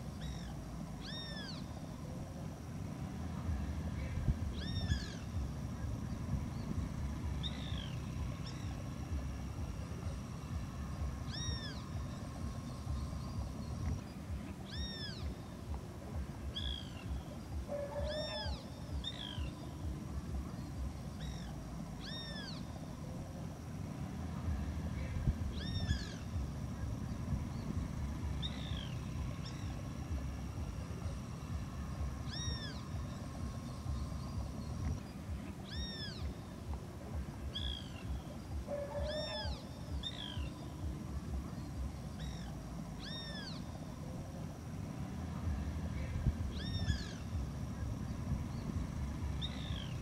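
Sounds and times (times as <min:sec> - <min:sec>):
steady low rumble: 0:00.0 - 0:50.0.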